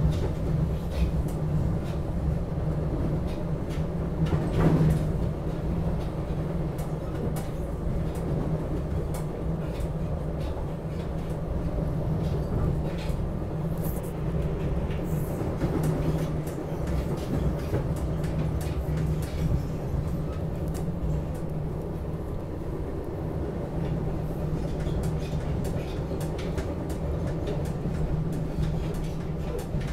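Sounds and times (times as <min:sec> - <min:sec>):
train low rumble: 0:00.0 - 0:29.9.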